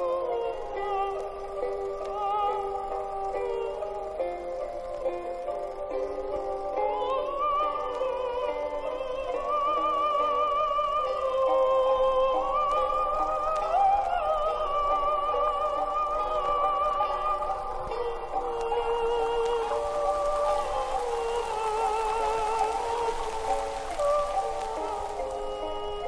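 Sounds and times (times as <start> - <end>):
high melody with vibrato: 0.0 - 26.0.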